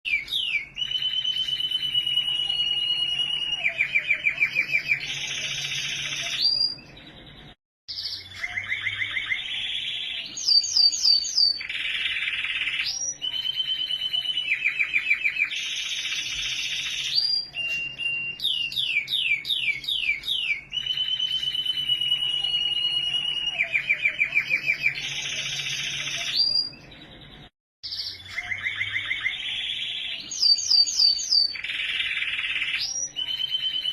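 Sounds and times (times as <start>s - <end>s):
canary singing: 0.1s - 33.9s.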